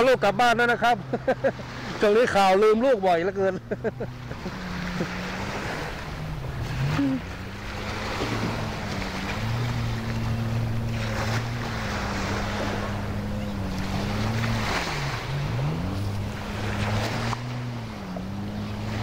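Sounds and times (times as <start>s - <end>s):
motor engine running: 3.2s - 19.0s.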